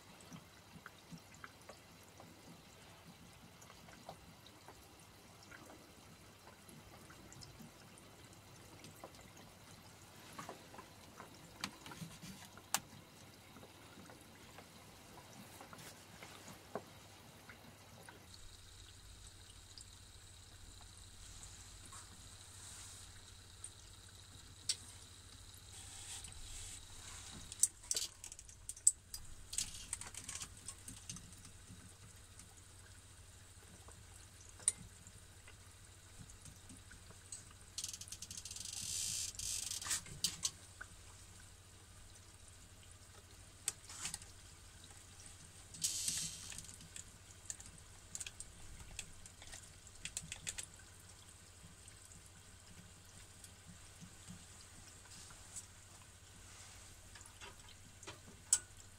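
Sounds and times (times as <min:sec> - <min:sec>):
oil bubbling and crackling in fryer: 0:00.0 - 0:58.9.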